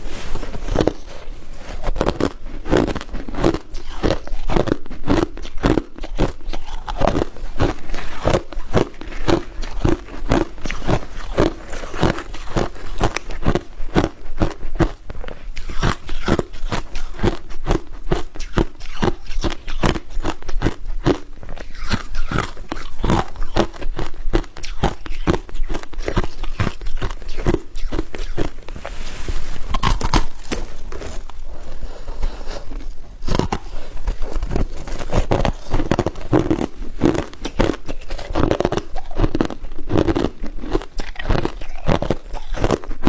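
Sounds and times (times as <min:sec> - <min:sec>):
person crunching ice cubes: 0:00.2 - 0:28.8, 0:29.6 - 0:43.0.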